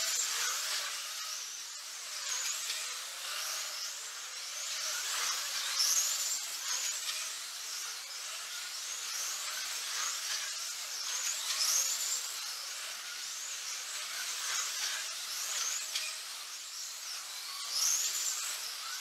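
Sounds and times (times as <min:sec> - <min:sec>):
slot car electric motors whining: 0:00.0 - 0:19.0.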